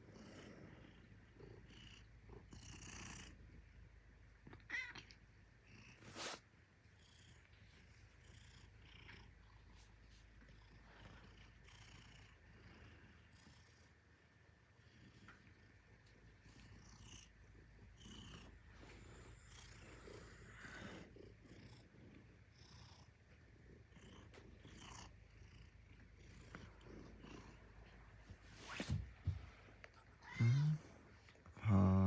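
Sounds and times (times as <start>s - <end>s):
cat purring: 0.0s - 4.4s, 5.5s - 32.0s.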